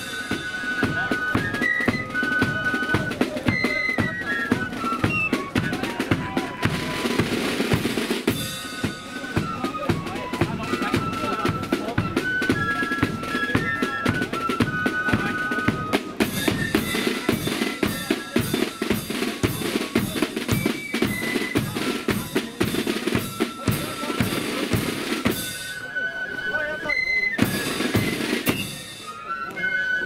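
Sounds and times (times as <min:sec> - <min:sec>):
side drum rudiments: 0:00.0 - 0:25.9, 0:26.8 - 0:29.3
flutes playing melody: 0:00.0 - 0:30.0.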